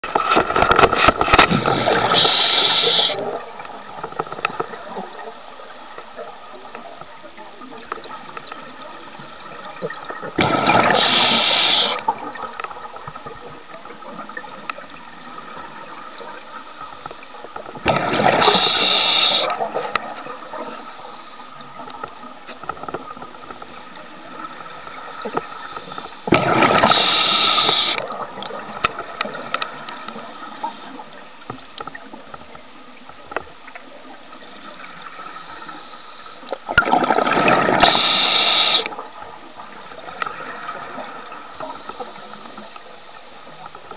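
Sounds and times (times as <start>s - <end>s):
quiet steady underwater noise: 0.0s - 43.9s.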